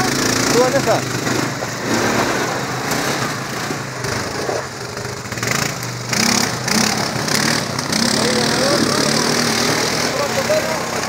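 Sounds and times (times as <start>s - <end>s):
quad engines running: 0.0s - 11.0s.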